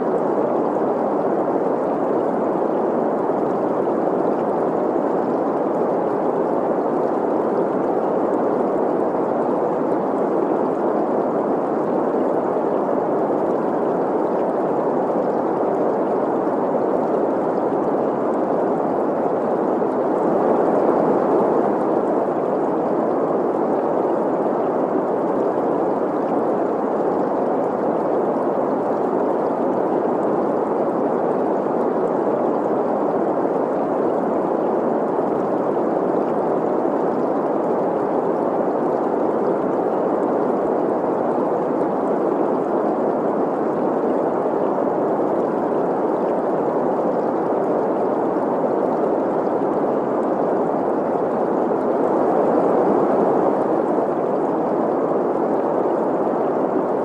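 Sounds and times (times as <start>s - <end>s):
flowing stream: 0.0s - 57.0s.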